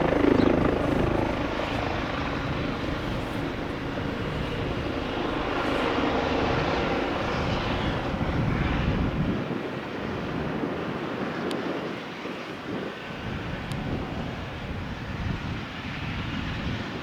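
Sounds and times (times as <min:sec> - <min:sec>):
helicopter turbines and rotor: 0:00.0 - 0:17.0.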